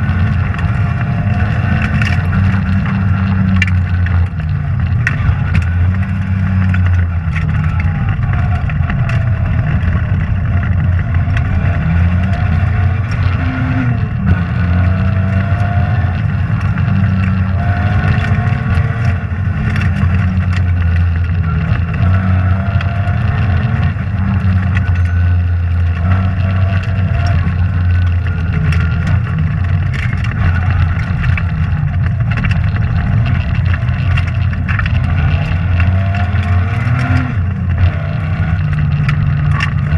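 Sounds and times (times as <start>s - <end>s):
rally car engine revving: 0.0s - 39.9s
sharp clicks and knocks: 0.0s - 39.9s.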